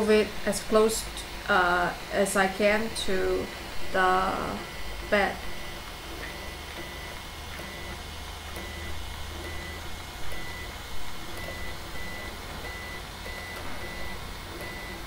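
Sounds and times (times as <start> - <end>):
low steady hum: 0.0 - 15.0
stepper motor short tones: 0.0 - 15.0.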